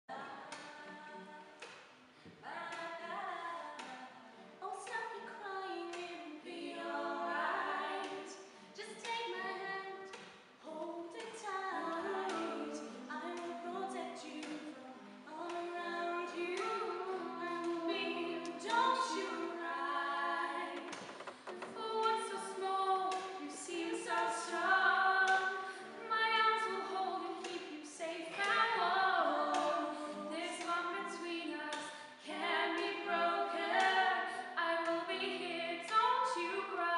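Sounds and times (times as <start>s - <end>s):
acoustic guitar: 0.1s - 36.9s
women singing in harmony: 2.4s - 36.9s.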